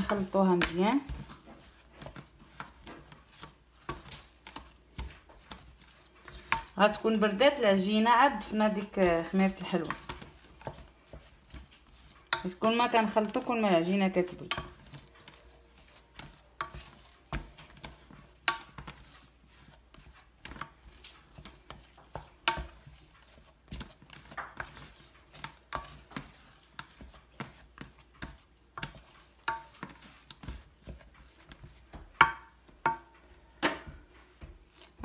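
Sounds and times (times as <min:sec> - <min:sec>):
spoon knocking and scraping pan: 0:00.0 - 0:35.0.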